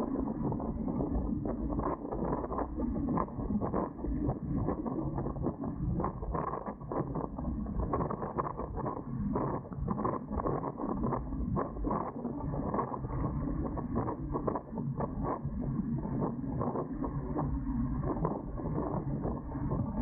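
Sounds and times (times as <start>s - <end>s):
rumble of wind and water: 0.0s - 20.0s.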